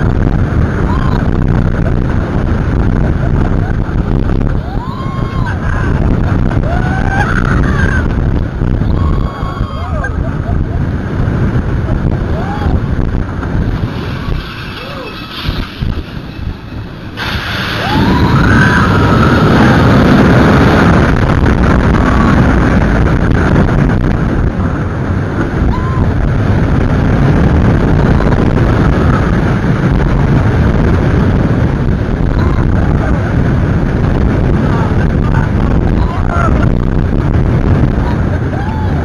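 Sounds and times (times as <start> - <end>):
roller coaster rumbling on track: 0.0 - 39.0
wind buffeting microphone: 0.0 - 39.0.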